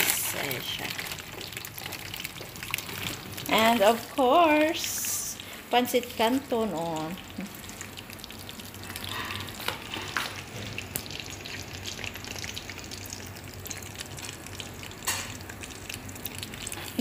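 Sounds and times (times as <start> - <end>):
hot oil popping: 0.0 - 17.0
oil crackling and sizzling: 0.0 - 17.0.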